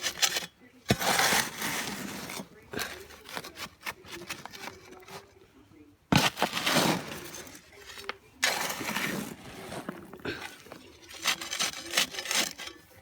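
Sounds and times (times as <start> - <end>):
gritty scraping of cement mixing: 0.0 - 5.4, 6.1 - 13.0.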